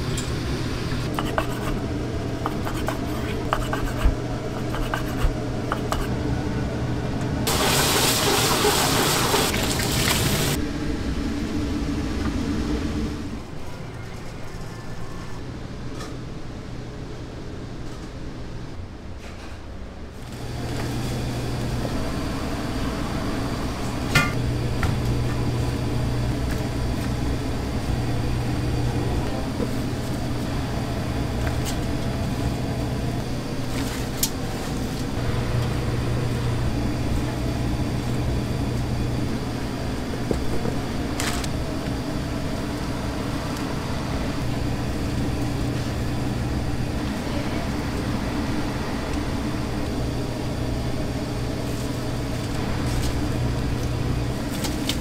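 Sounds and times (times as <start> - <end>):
kitchen equipment humming: 0.0 - 14.5, 20.2 - 55.0.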